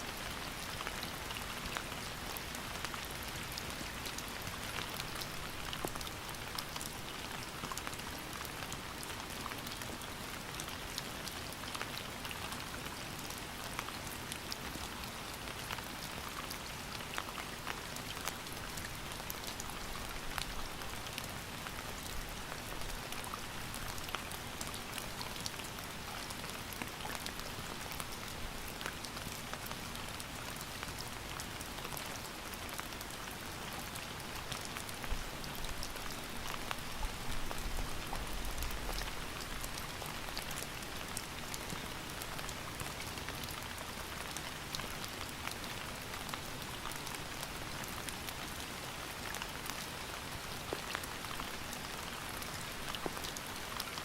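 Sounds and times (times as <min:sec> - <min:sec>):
steady rain hiss: 0:00.0 - 0:54.0
raindrops ticking on a surface: 0:00.1 - 0:54.0.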